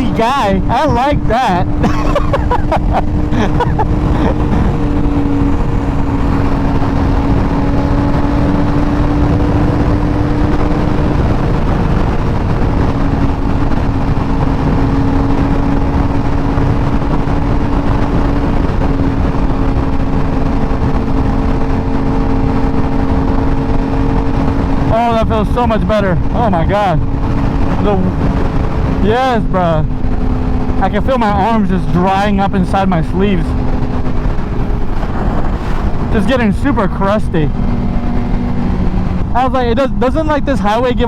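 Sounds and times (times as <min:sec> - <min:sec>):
motorcycle engine droning: 0:00.0 - 0:41.0
wind rush on microphone: 0:00.0 - 0:41.0.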